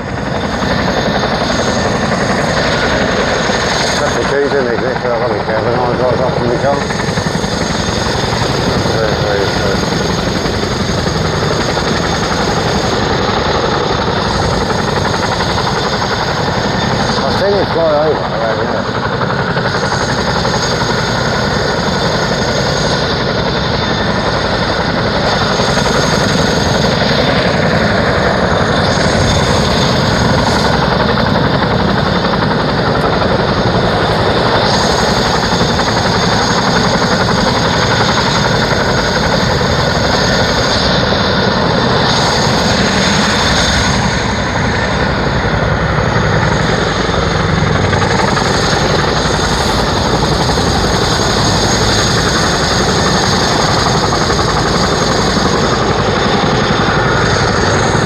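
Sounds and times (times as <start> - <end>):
helicopter rotor noise: 0.0 - 58.0
high turbine whine: 0.0 - 58.0.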